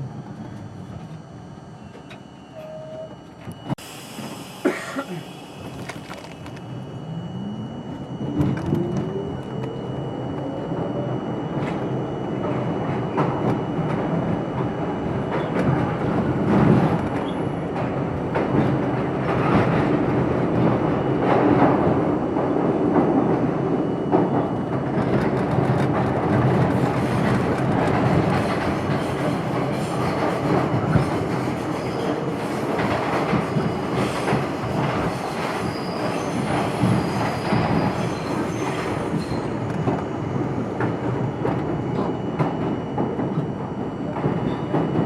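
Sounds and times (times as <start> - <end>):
train wheels on rails: 7.9 - 45.0.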